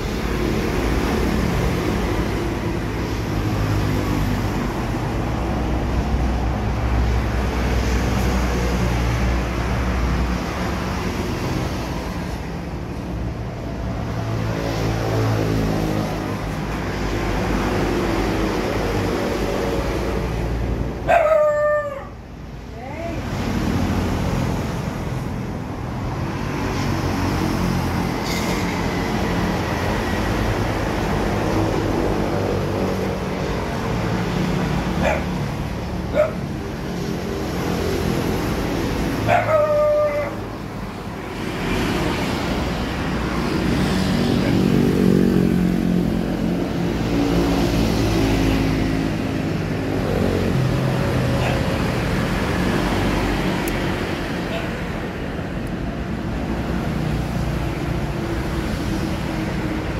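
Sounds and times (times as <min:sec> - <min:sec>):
motorbike engines passing: 0:00.0 - 0:59.9
road traffic passing: 0:00.0 - 0:59.9.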